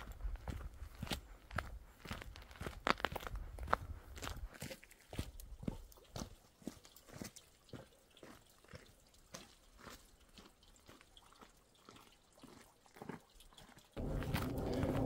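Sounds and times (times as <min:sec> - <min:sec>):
footsteps on dirt trail: 0:00.0 - 0:15.0.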